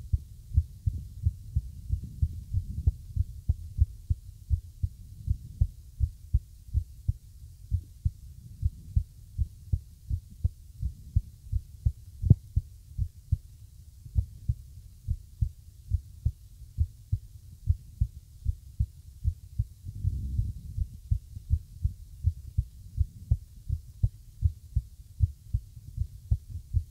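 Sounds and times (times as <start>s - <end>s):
heartbeat thumps: 0.0s - 26.9s.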